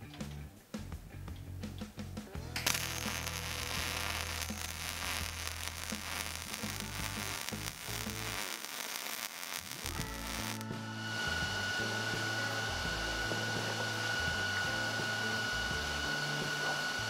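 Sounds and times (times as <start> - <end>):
welding arc crackling and sizzling: 2.6 - 17.0.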